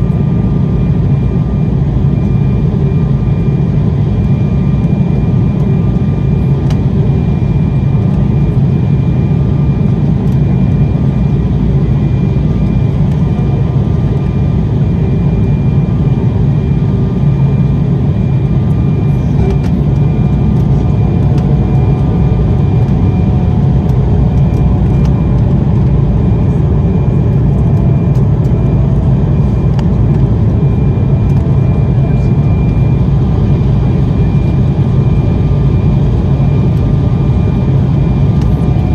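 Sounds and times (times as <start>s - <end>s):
airliner cabin rumble: 0.0s - 38.9s
high engine whine: 0.0s - 38.9s.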